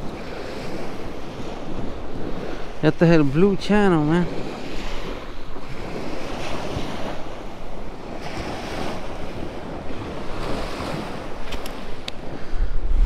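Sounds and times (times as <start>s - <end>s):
surf washing onto shore: 0.0s - 13.0s
wind on microphone: 0.0s - 13.0s.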